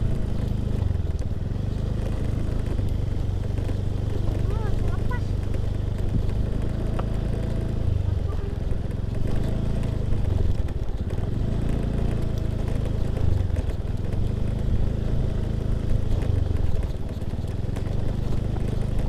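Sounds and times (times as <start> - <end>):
motor scooter engine humming: 0.0 - 19.0.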